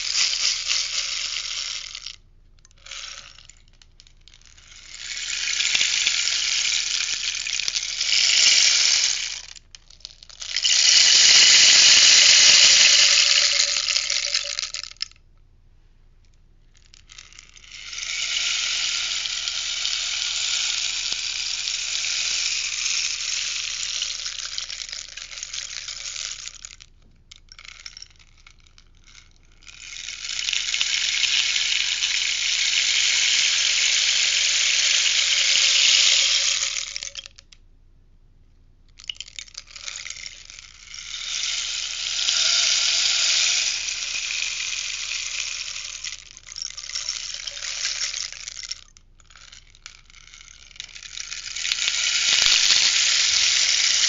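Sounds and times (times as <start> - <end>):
rainstick pellets pattering: 0.0 - 15.2, 16.7 - 37.5, 39.0 - 54.0.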